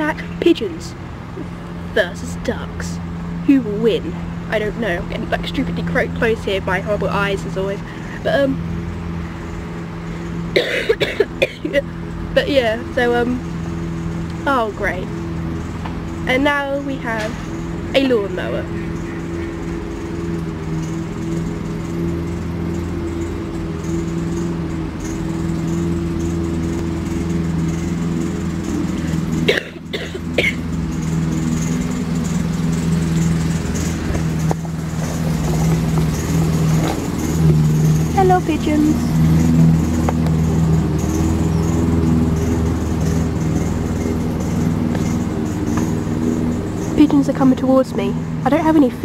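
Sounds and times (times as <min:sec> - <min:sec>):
lawn mower engine running: 0:00.0 - 0:49.0.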